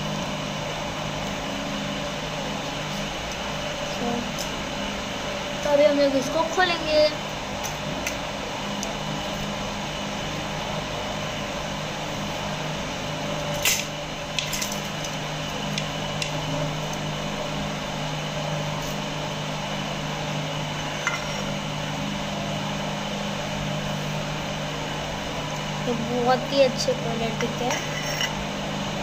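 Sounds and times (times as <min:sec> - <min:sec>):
appliance humming: 0:00.0 - 0:29.0.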